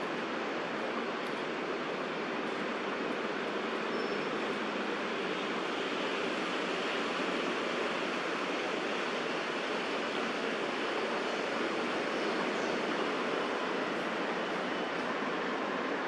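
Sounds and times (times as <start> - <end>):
distant road traffic rush: 0.0 - 16.0.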